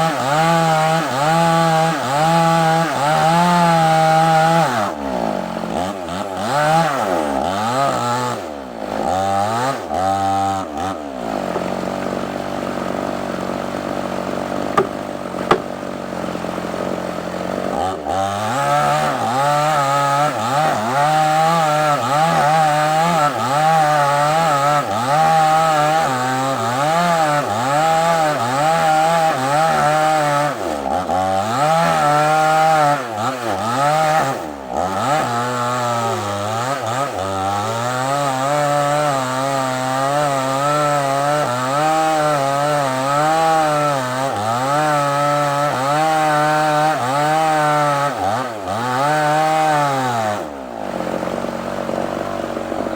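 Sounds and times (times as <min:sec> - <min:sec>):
chainsaw cutting log: 0:00.0 - 0:52.9.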